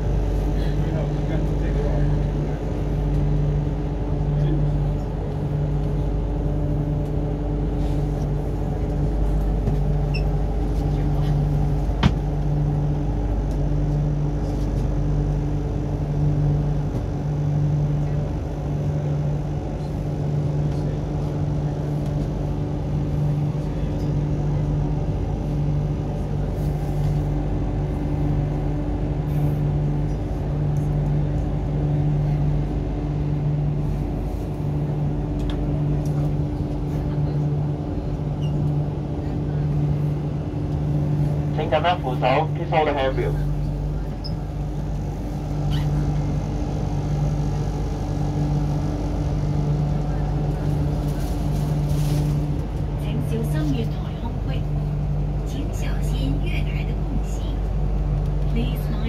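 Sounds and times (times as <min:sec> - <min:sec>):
low hum: 0:00.0 - 0:59.0
train wheels rumbling on track: 0:00.0 - 0:59.0.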